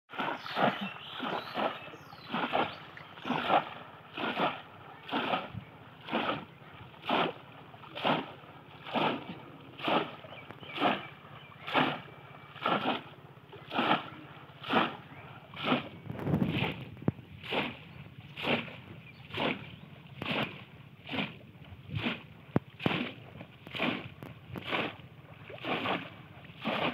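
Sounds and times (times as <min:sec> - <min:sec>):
fish traps splashing into water: 0:00.1 - 0:16.8, 0:17.4 - 0:17.8, 0:18.4 - 0:26.9.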